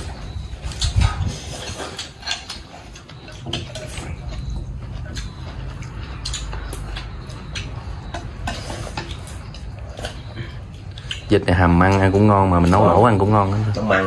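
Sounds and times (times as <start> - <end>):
utensils clicking against bowls: 0.6 - 12.2.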